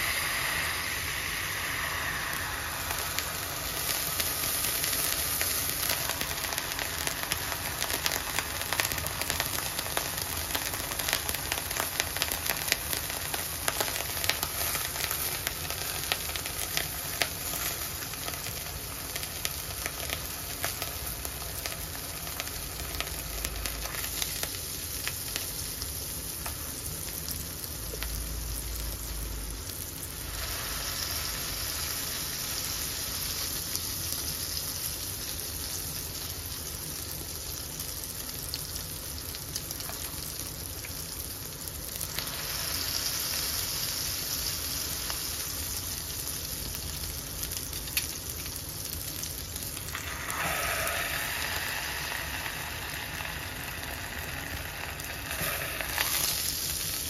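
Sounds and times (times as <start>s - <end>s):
meat patty sizzling in a skillet: 0.0s - 57.0s.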